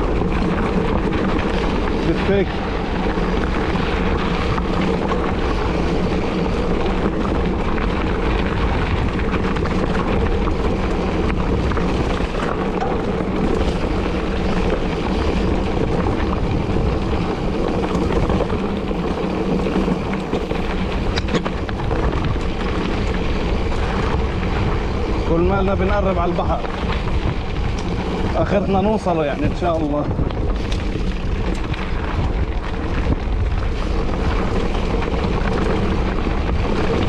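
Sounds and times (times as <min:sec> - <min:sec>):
bike rolling noise: 0:00.0 - 0:37.0
wind on microphone: 0:00.0 - 0:37.0.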